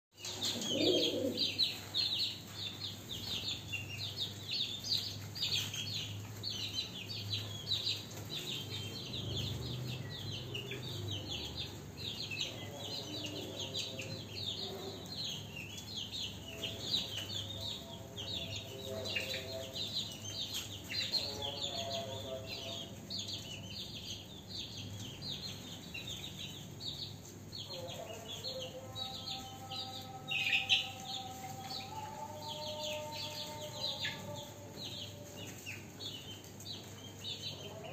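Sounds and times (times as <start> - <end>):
small birds chirping: 0.2 - 37.9.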